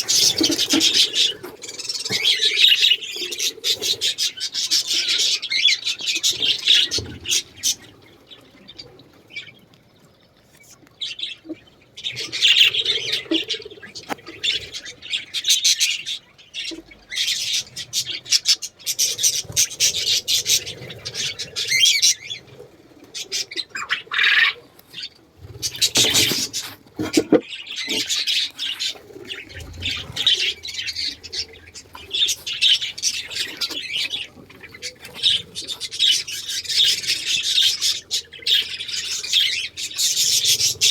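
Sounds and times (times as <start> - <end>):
birds chattering and squawking: 0.0 - 40.9.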